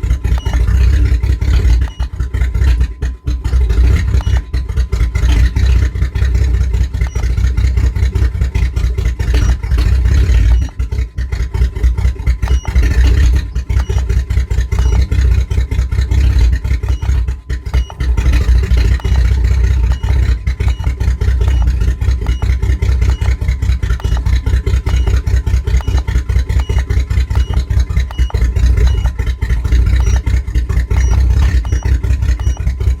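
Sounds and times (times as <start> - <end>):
car engine misfiring: 0.0 - 33.0.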